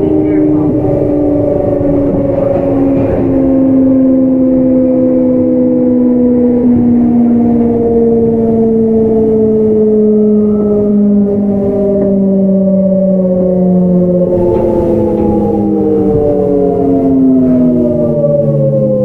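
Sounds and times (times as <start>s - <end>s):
train traction motors whining: 0.0s - 19.0s
wheels rumbling on rail: 0.0s - 19.0s.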